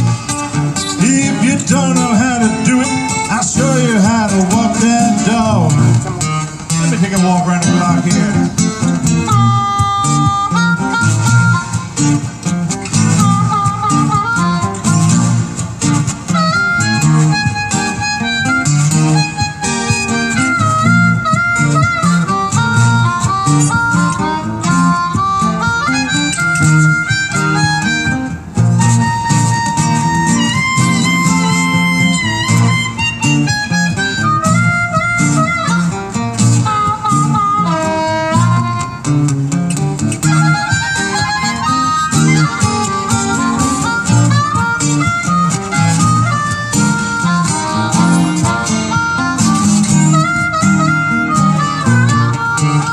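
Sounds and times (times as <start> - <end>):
acoustic guitars strumming: 0.0 - 52.9
harmonica solo: 0.0 - 52.9.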